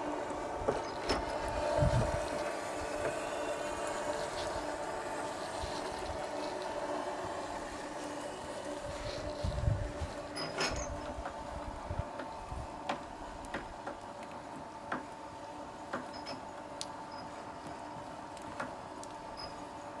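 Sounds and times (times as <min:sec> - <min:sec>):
machine motor hum: 0:00.0 - 0:20.0.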